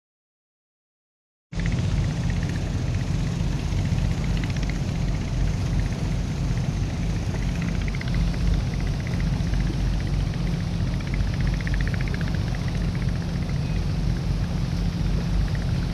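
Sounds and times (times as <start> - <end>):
engine running steadily: 1.6 - 15.9.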